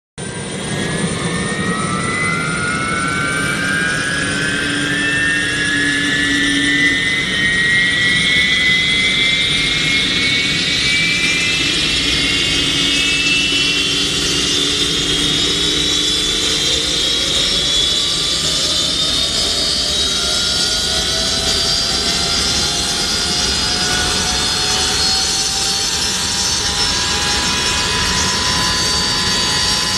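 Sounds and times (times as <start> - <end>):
jet engines spooling up: 0.2 - 29.9.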